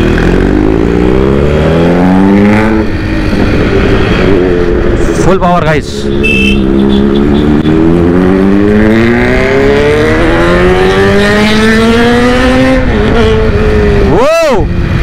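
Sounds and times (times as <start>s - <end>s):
motorcycle engine at full throttle: 0.0s - 15.0s.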